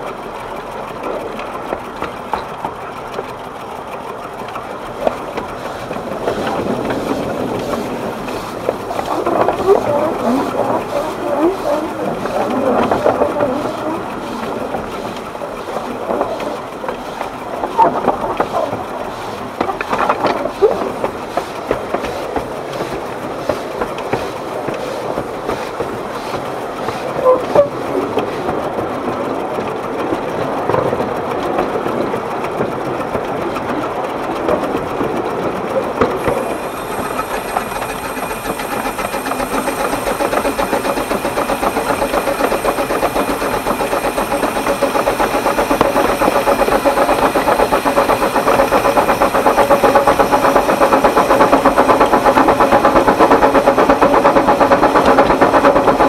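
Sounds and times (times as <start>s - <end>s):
steam locomotive running: 0.0s - 56.0s
wheels clicking on track: 0.0s - 56.0s.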